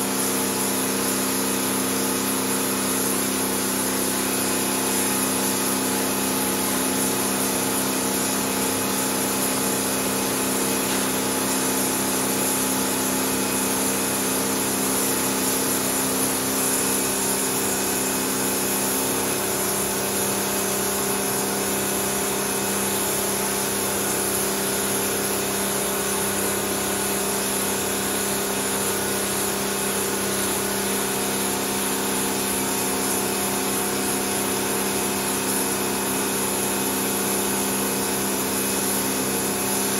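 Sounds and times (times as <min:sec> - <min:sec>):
pump motor humming: 0:00.0 - 0:39.9.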